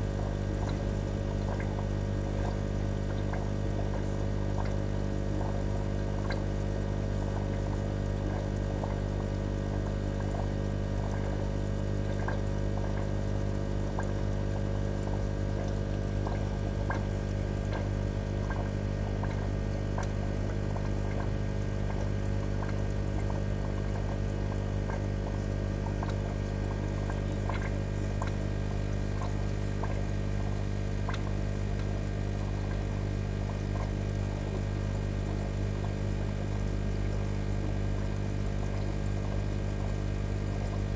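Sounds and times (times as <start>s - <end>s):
steady low hum: 0.0s - 6.5s, 12.0s - 25.1s, 25.8s - 40.0s
aquarium water trickling and bubbling: 0.0s - 40.9s.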